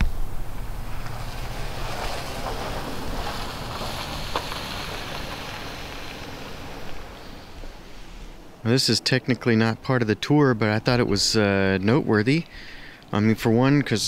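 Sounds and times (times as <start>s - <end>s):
outdoor ambience: 0.0s - 14.0s.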